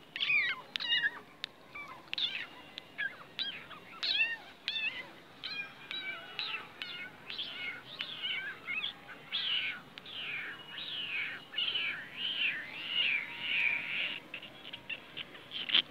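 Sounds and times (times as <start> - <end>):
small animals mewing squeaks: 0.2 - 15.9.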